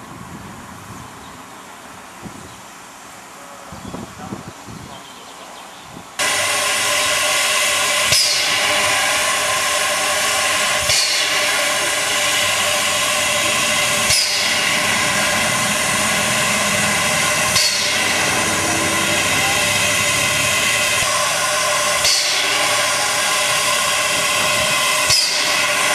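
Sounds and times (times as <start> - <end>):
steam locomotive hissing steam: 0.0 - 25.9.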